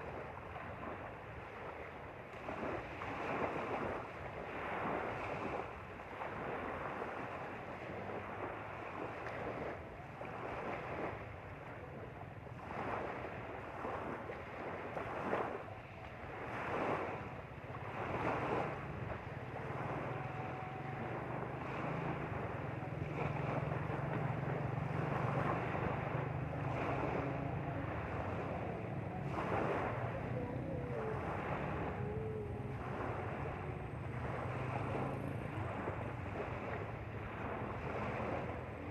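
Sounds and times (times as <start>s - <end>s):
low engine hum: 0.0s - 38.9s
water splashing along boat hull: 0.0s - 38.9s
wind buffeting microphone: 0.0s - 38.9s.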